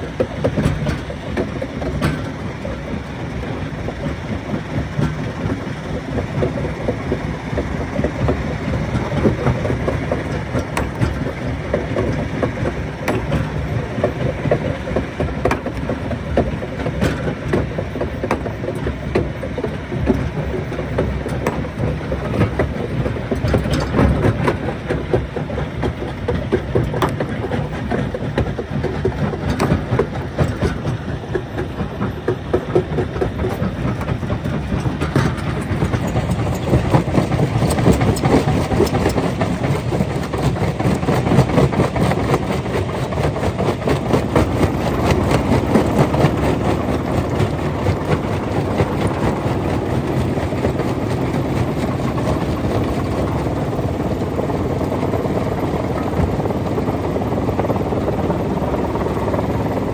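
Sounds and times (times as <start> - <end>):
stone crusher machinery drone: 0.0 - 59.9.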